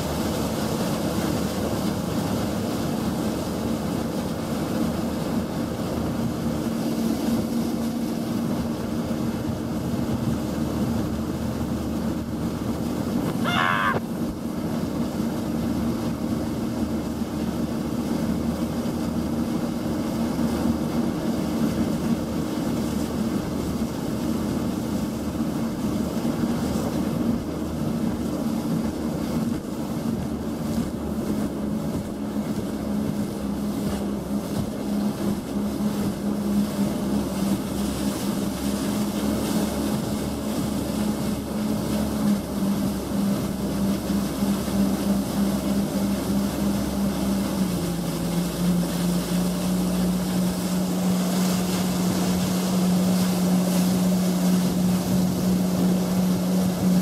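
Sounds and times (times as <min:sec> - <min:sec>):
jet ski engine running: 0:00.0 - 0:57.0
rush of wind and water: 0:00.0 - 0:57.0.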